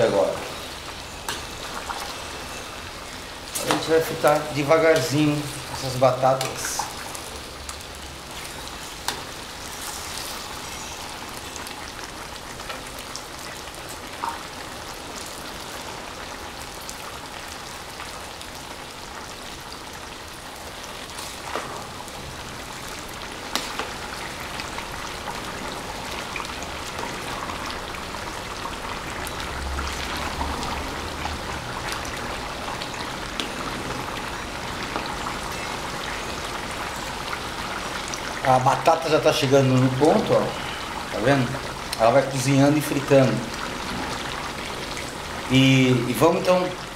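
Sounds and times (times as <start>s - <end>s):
potato slices sizzling in oil: 0.0s - 46.9s.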